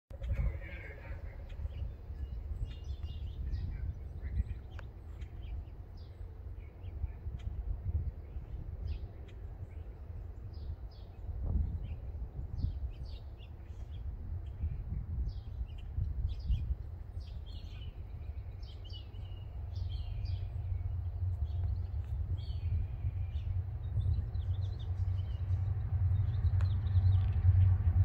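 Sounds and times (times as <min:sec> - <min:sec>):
low rumble: 0:00.1 - 0:28.0
small birds chirping: 0:00.1 - 0:28.0.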